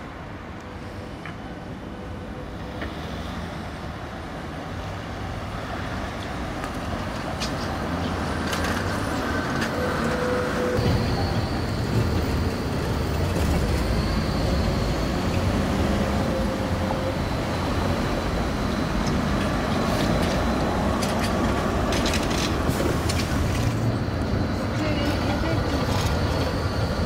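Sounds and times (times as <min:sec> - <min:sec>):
traffic and tyres rumbling: 0:00.0 - 0:27.0
trolleybus whine: 0:00.0 - 0:27.0.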